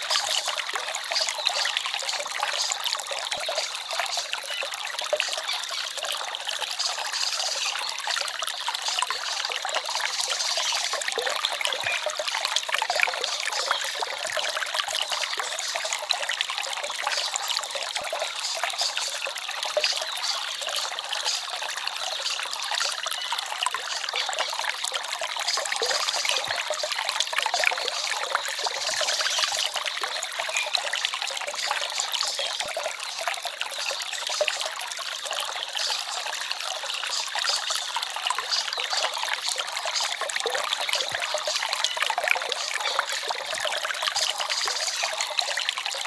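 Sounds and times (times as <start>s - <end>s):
stream trickling and babbling: 0.0s - 46.0s.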